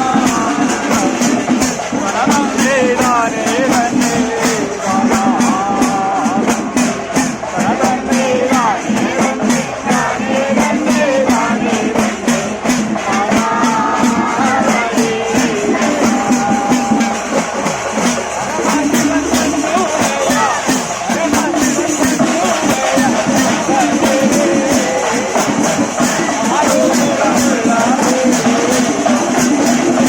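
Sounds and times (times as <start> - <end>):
hourglass drums: 0.0 - 30.0.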